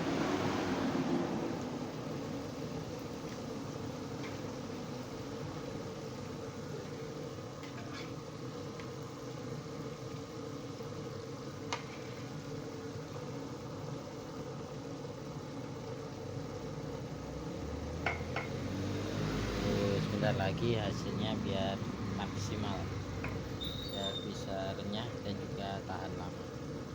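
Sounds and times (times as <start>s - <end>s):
chicken deep-frying in oil: 0.0s - 26.9s.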